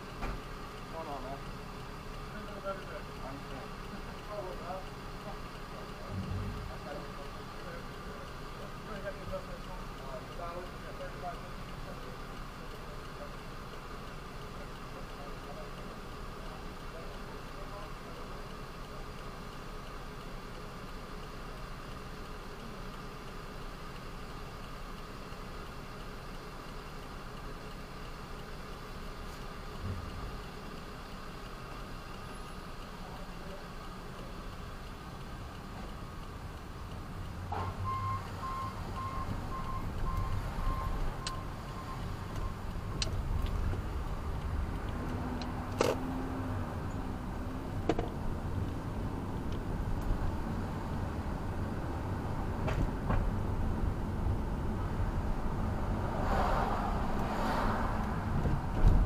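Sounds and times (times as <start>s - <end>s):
road traffic rumble: 0.0s - 59.0s
vehicle engine idling: 0.0s - 59.0s.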